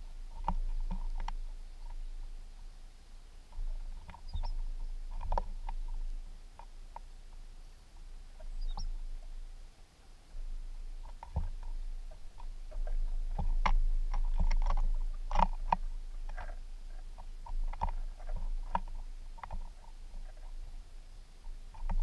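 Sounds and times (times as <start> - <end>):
birds pecking seed on wood: 0.0 - 2.7, 3.4 - 22.0.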